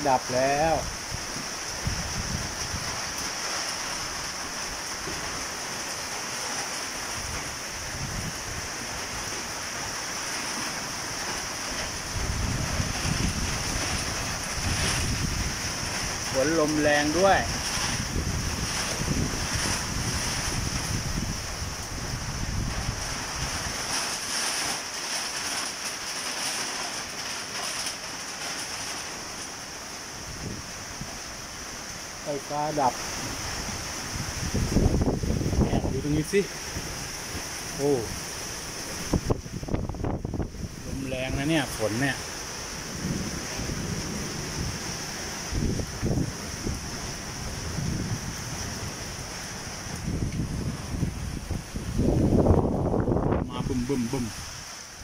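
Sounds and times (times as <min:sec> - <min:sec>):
rain hissing in wind: 0:00.0 - 0:55.0
wind gusts buffeting microphone: 0:00.2 - 0:05.6, 0:07.0 - 0:24.0, 0:30.1 - 0:31.7, 0:32.5 - 0:55.0.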